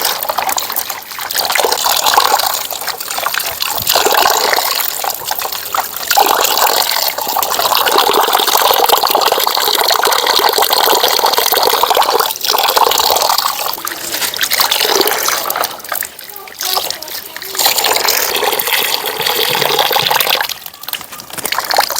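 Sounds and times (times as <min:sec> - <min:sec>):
water pouring and splashing: 0:00.0 - 0:21.9.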